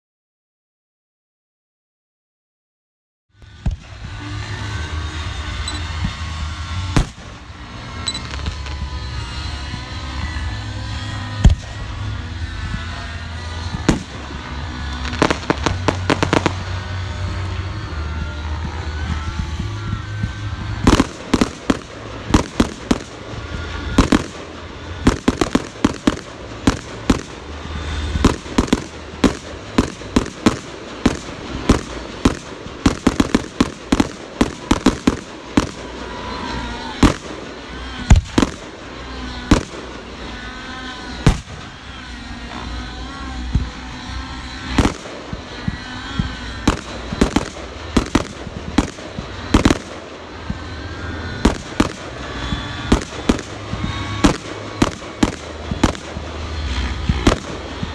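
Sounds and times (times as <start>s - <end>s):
fireworks bangs: 3.4s - 57.9s.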